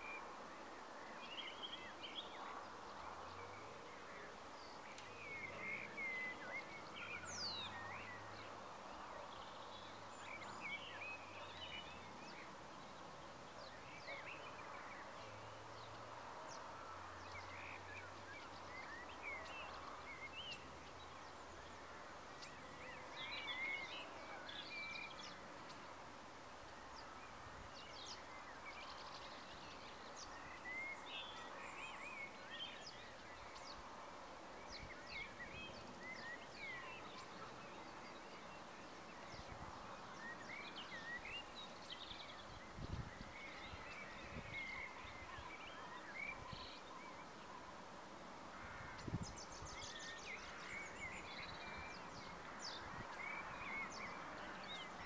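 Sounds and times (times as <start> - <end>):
birds chirping and warbling: 0.0 - 26.1, 34.5 - 55.0.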